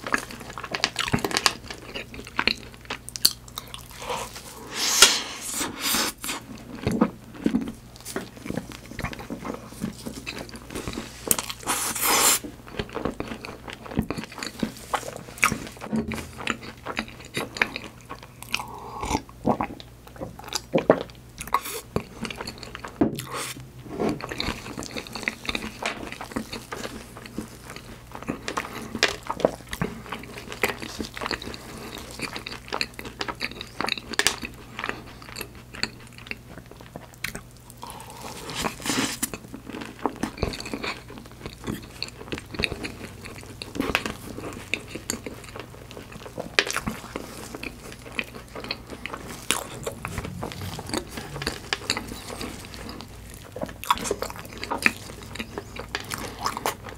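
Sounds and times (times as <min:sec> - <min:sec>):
chewing crunchy pastry: 0:00.0 - 0:56.9.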